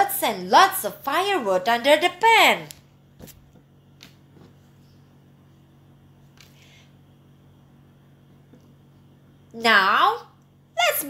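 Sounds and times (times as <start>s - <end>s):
faint low hum and hiss: 0.0s - 11.0s.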